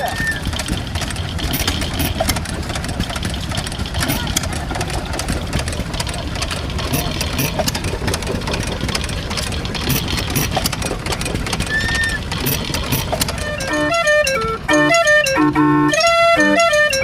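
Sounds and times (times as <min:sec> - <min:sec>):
irregular clicks and knocks: 0:00.0 - 0:17.0
old engines rumbling: 0:00.0 - 0:17.0.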